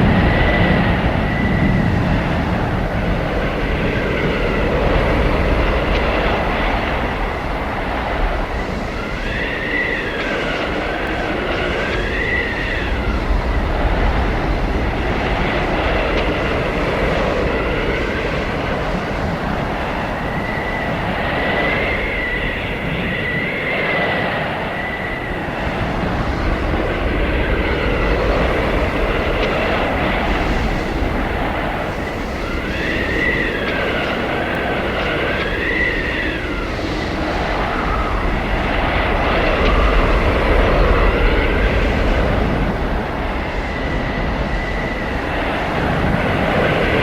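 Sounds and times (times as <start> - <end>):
blizzard wind howling: 0.0 - 47.0
high whistling wind tones: 0.0 - 47.0.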